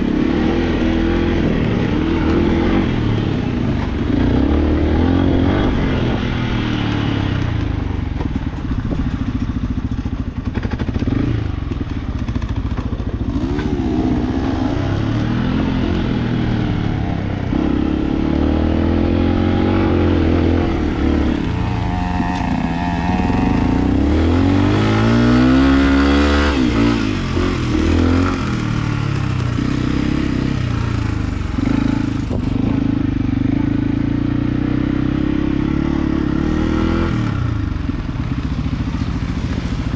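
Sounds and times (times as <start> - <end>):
dirt bike engine revving: 0.0 - 7.7, 10.5 - 37.6.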